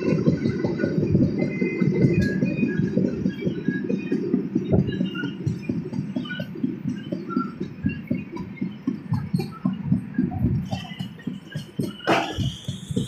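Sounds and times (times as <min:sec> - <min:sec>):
train wheels rumbling on rail: 0:00.0 - 0:13.0
wheels and coach knocking and rattling: 0:00.0 - 0:13.0.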